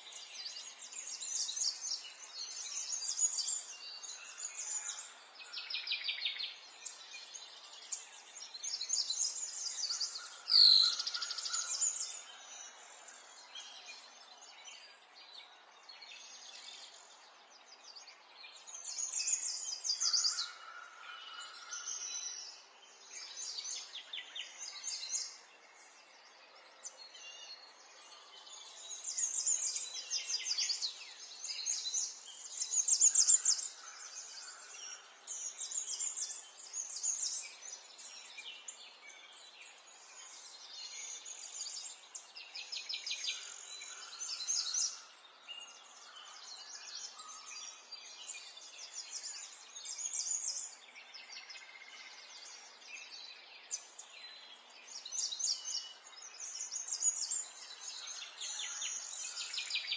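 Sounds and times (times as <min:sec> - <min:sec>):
birds singing and calling: 0:00.0 - 0:59.9.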